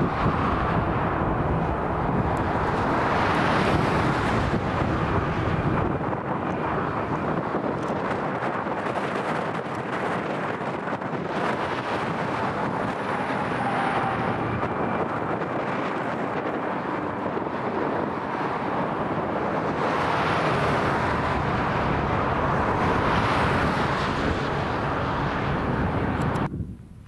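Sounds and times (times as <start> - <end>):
diesel locomotives running: 0.0 - 26.5
freight cars rolling over bridge: 0.0 - 26.5.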